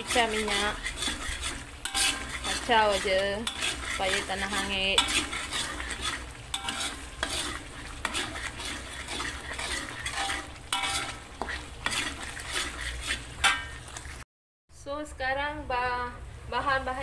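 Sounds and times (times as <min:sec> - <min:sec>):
metal spatula scraping wok: 0:00.0 - 0:14.2
paste sizzling in oil: 0:00.0 - 0:14.2.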